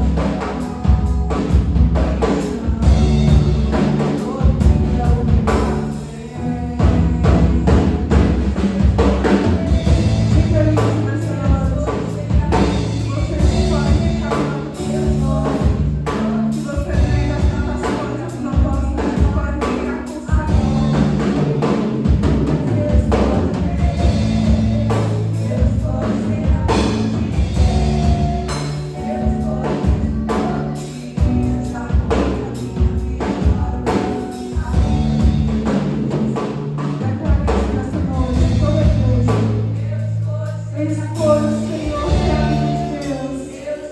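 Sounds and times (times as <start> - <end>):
bass: 0.0 - 43.9
drum kit: 0.0 - 43.9
person singing: 0.0 - 43.9.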